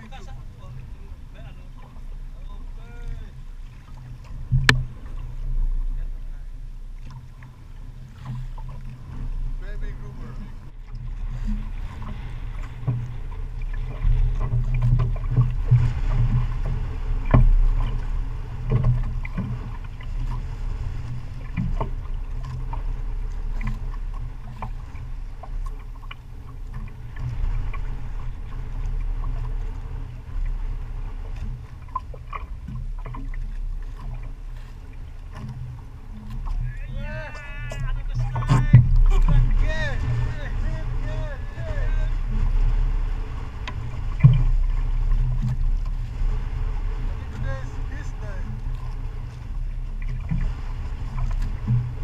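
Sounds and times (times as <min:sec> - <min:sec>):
boat low rumble: 0:00.0 - 0:52.0
water noise: 0:00.0 - 0:52.0.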